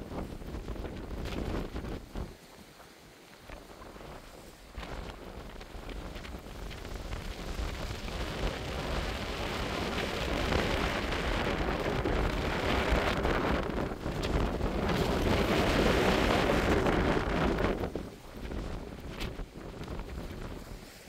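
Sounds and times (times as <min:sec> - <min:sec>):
wind buffeting microphone: 0:00.0 - 0:02.8, 0:03.4 - 0:21.0.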